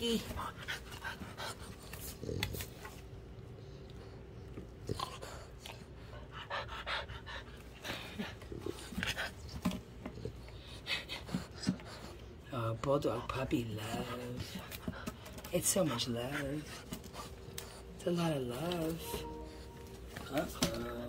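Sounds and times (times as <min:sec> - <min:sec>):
puppy panting: 0:00.0 - 0:21.0.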